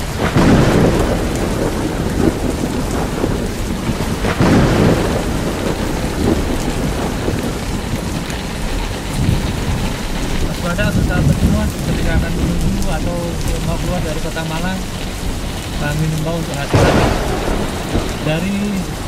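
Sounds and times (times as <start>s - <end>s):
deep rumble: 0.0s - 19.0s
heavy rain drumming on car roof: 0.0s - 19.0s.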